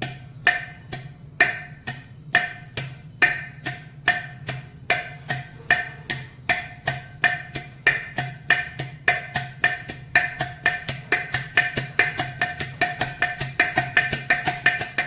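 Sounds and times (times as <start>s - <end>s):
clay pot drum rhythm: 0.0s - 15.0s.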